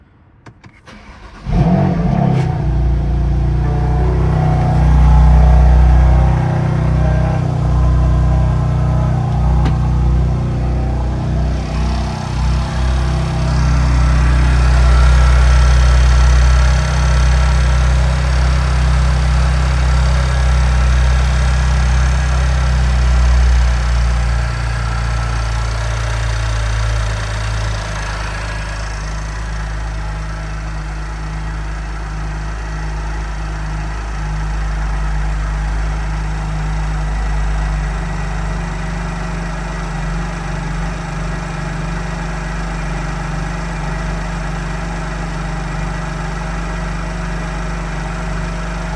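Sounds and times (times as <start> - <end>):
car engine idling: 0.8 - 48.9.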